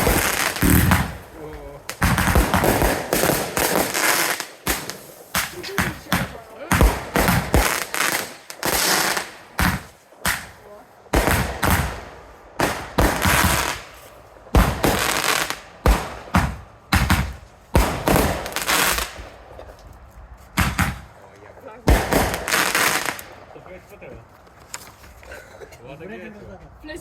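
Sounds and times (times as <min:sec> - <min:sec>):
fireworks bangs: 0:00.0 - 0:24.3
fireworks crackling hiss: 0:00.0 - 0:26.0.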